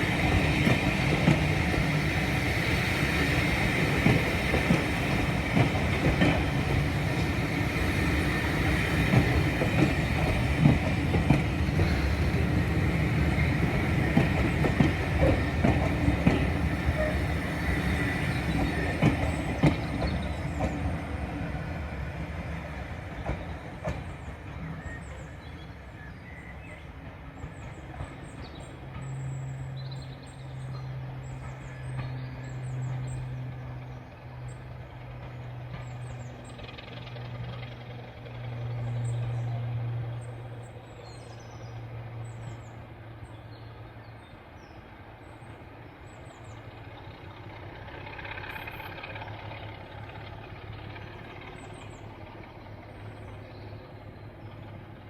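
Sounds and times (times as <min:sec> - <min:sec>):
train rumbling past: 0:00.0 - 0:55.0
train wheels clicking on rails: 0:00.0 - 0:55.0.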